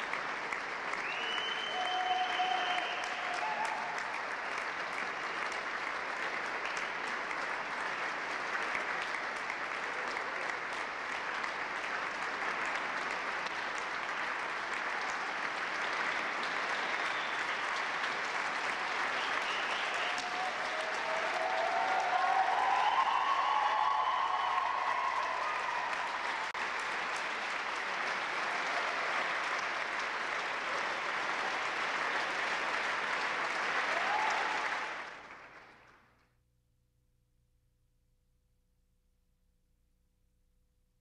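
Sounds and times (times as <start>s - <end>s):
audience applauding: 0.0s - 36.1s.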